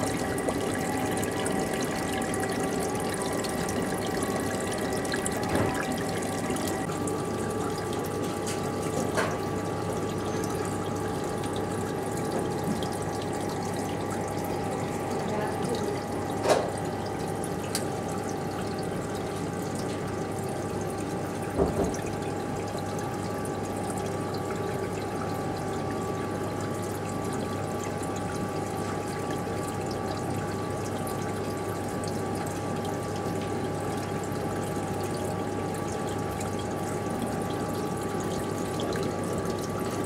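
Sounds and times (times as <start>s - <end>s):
aquarium pump hum: 0.0s - 40.0s
water circulating in aquarium: 0.0s - 40.0s.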